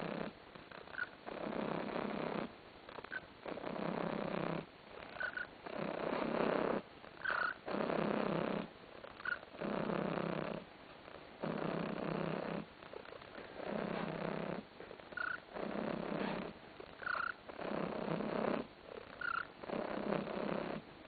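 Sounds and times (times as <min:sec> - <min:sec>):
cat purring loudly: 0:00.0 - 0:10.7, 0:11.4 - 0:20.9.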